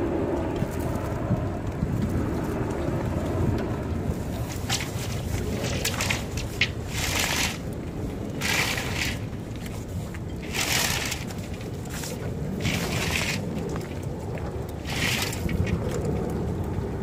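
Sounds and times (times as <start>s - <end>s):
sail flapping and crackling: 0.0s - 17.0s
wind rumble on microphone: 0.0s - 17.0s.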